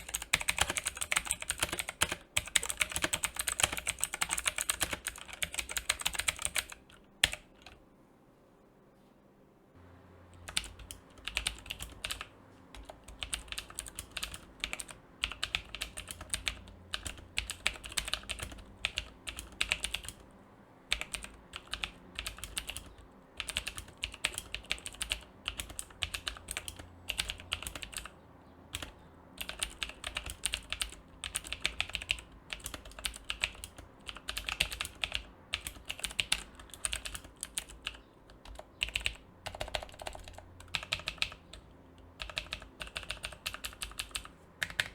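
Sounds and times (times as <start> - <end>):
mechanical keyboard typing clicks: 0.0 - 7.8, 10.4 - 20.2, 20.9 - 28.1, 28.7 - 44.9.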